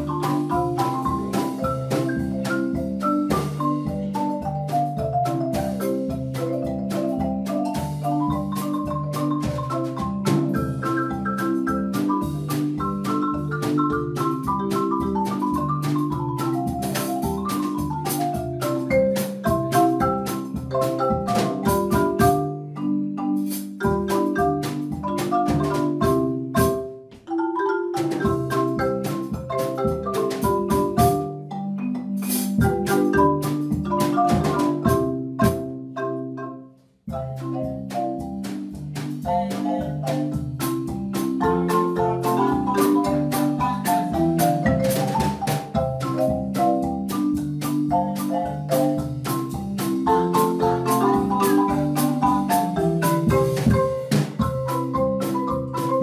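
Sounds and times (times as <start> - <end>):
marimba ensemble playing: 0.0 - 56.0.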